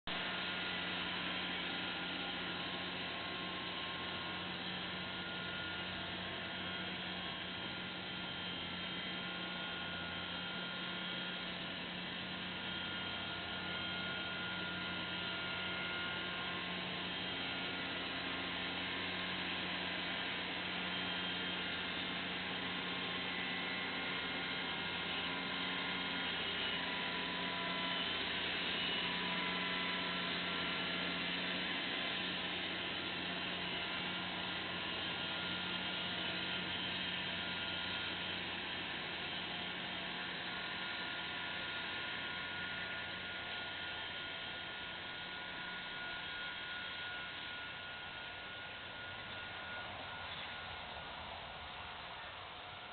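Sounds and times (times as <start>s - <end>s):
tractor engine droning: 0.1s - 52.9s.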